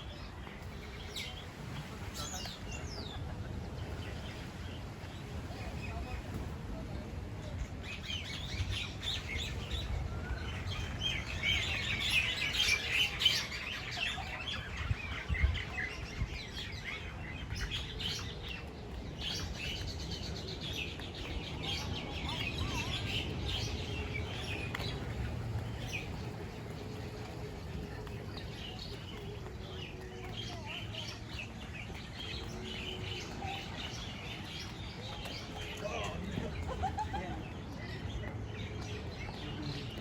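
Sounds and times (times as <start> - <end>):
flock of birds chirping: 0.0 - 40.0.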